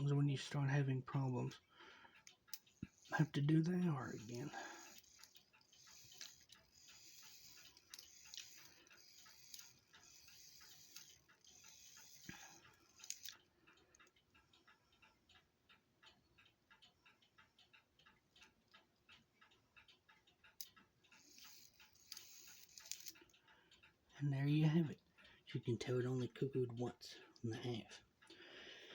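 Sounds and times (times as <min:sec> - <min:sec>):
clock ticking: 0:00.0 - 0:28.9
clock works whirring: 0:00.0 - 0:28.9.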